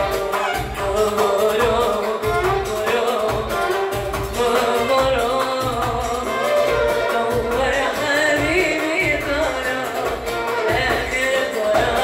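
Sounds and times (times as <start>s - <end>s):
violin: 0.0s - 5.3s, 5.9s - 12.0s
woman singing: 0.0s - 12.0s.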